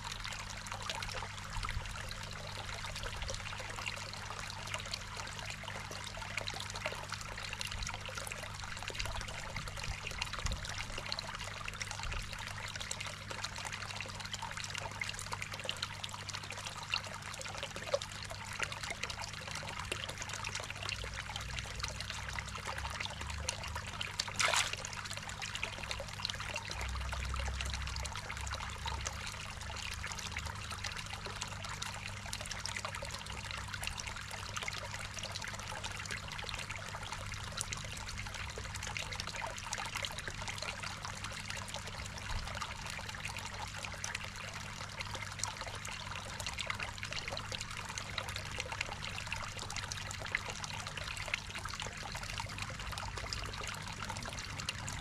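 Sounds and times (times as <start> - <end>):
water trickling into pond: 0.0 - 55.0.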